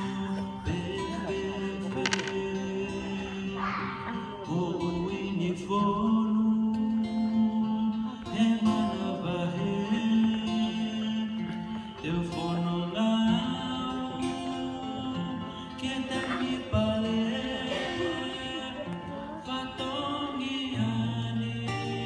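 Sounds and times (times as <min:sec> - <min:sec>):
acoustic guitar: 0:00.0 - 0:22.0
man singing into a microphone: 0:00.0 - 0:22.0.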